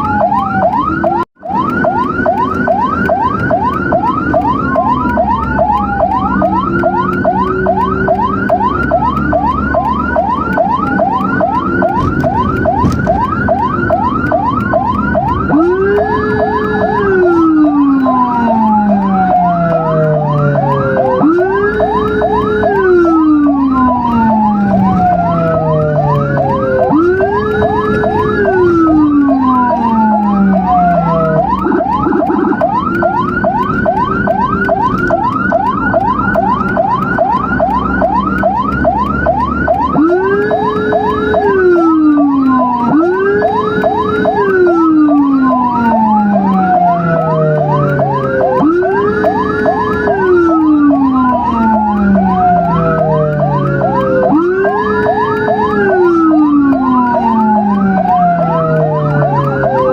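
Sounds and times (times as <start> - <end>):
deeper siren wail: 0.0 - 59.9
rapid siren yelp: 0.0 - 59.9
siren wails: 0.0 - 59.9.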